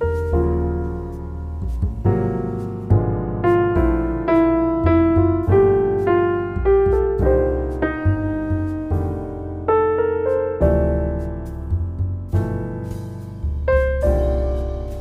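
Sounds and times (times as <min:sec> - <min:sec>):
deep bass notes: 0:00.0 - 0:15.0
slow piano melody: 0:00.0 - 0:15.0.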